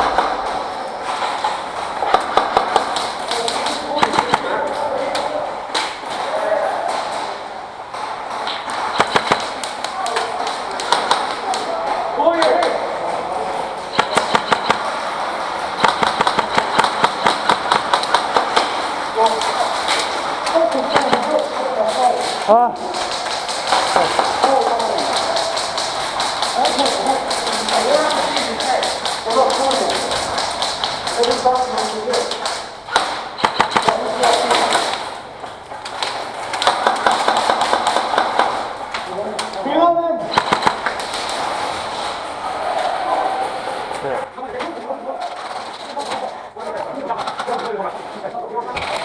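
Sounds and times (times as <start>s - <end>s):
airsoft guns firing: 0.0s - 6.2s, 7.9s - 39.6s, 40.2s - 42.3s.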